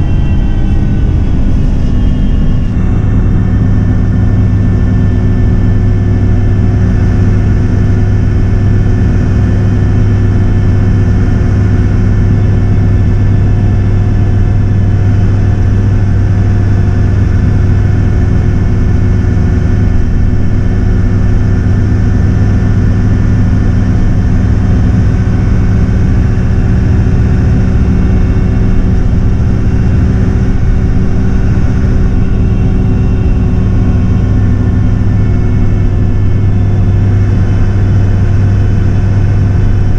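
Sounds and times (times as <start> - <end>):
coach diesel engine droning: 0.0 - 39.9
road noise: 0.0 - 39.9.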